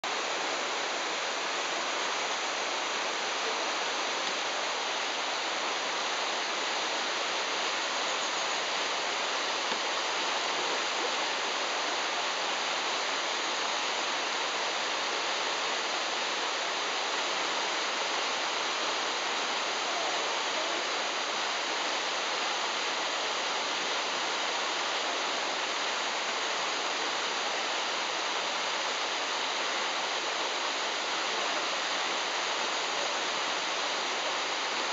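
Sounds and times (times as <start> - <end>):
whitewater rushing over boulders: 0.0 - 34.9.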